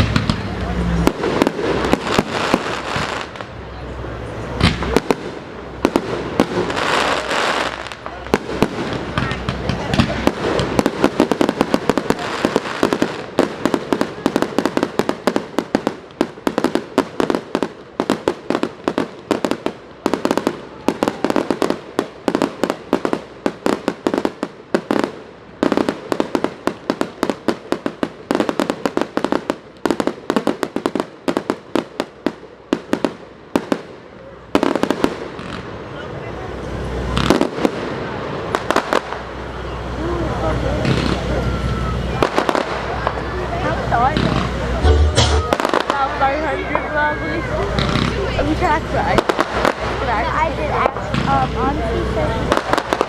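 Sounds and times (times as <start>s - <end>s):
firecrackers cracking and popping: 0.0s - 53.0s.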